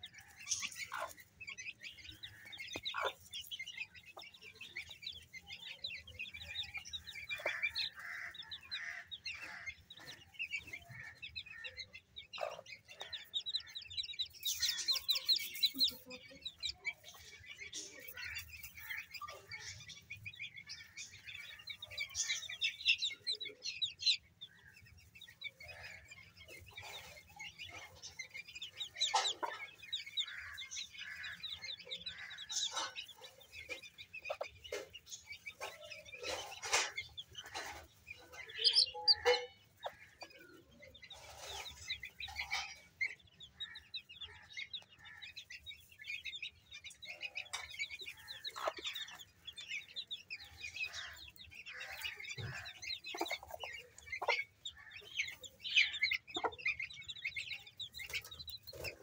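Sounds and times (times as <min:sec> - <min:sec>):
chicks peeping: 0:00.0 - 0:59.0
hen clucking: 0:00.0 - 0:59.0.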